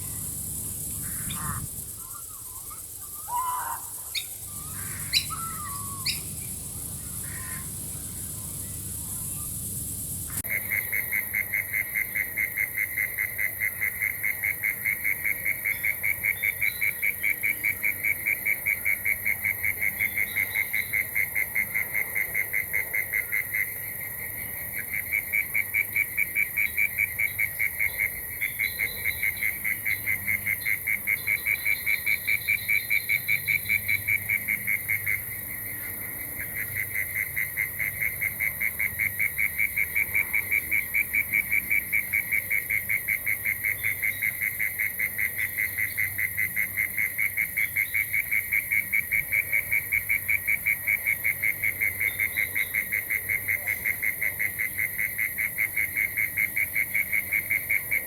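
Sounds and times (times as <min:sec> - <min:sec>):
high insect hiss: 0:00.0 - 0:58.0
frog calling in fast ticks: 0:00.1 - 0:08.5, 0:10.2 - 0:58.0.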